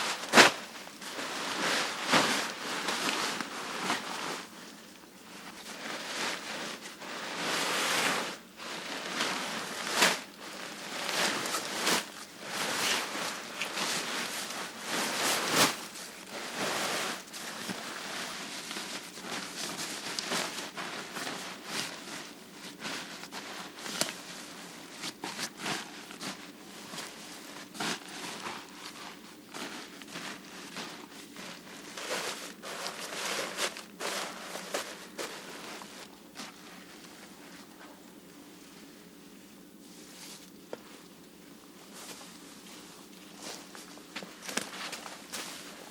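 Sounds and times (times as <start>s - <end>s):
rustling and crackling: 0.0s - 45.9s.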